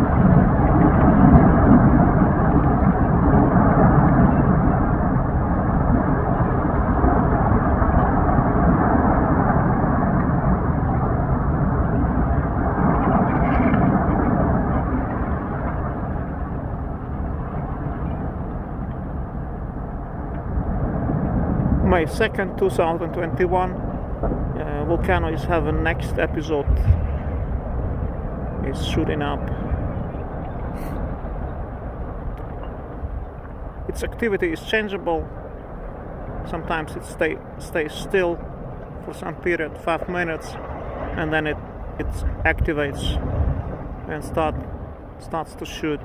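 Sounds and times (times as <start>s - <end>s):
lava fountain roaring: 0.0s - 46.0s.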